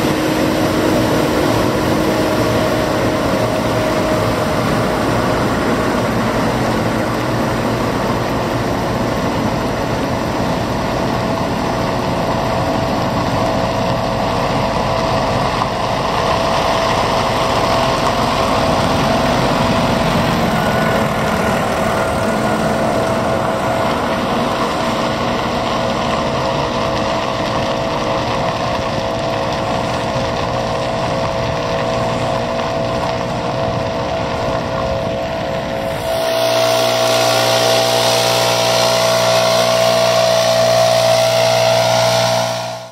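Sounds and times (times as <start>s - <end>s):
diesel engines of road machinery: 0.0s - 42.9s
steady whine: 0.0s - 42.9s.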